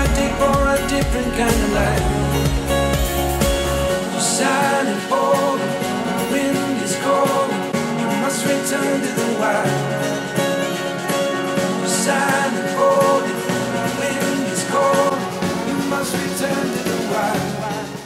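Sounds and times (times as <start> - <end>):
guitar: 0.0 - 18.0
person singing: 0.0 - 18.0.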